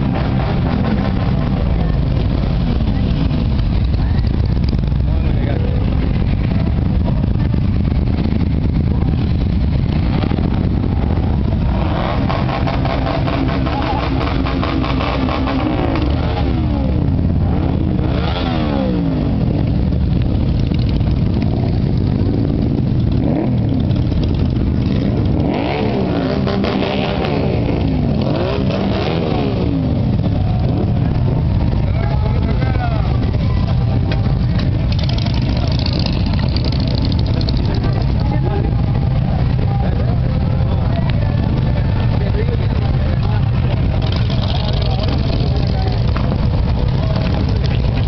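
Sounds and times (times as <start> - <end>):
motorcycles riding past: 0.0 - 48.0.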